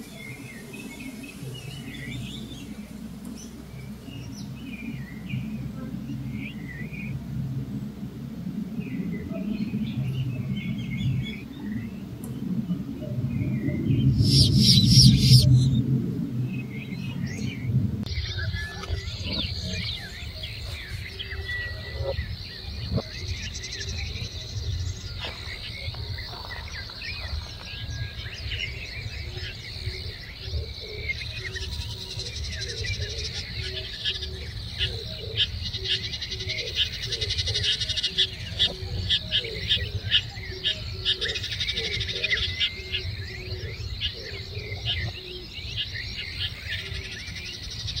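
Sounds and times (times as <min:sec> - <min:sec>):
birds chirping and calling: 0:00.0 - 0:08.0, 0:08.6 - 0:48.0
low repeated bird call: 0:00.0 - 0:48.0
steady low rumble: 0:00.0 - 0:48.0.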